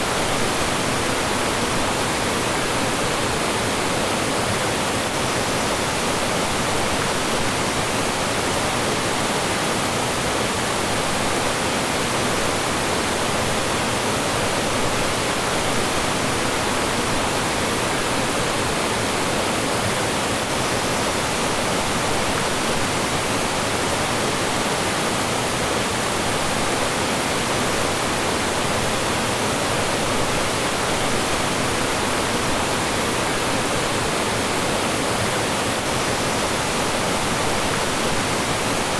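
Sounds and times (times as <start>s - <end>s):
mountain stream rushing over rocks: 0.0s - 38.9s.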